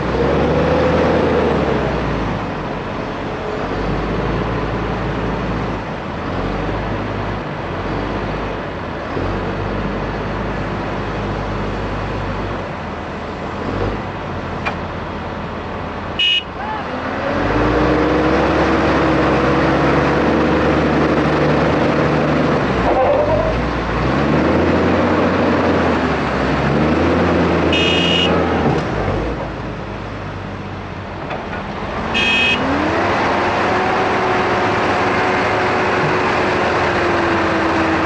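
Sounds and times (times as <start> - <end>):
diesel farm machinery revving: 0.0 - 38.0.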